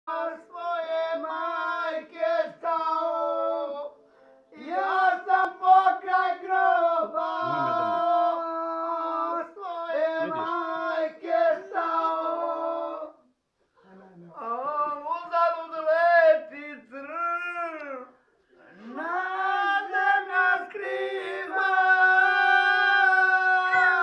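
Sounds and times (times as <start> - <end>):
man singing: 0.1 - 4.0, 4.6 - 13.1, 14.4 - 24.0.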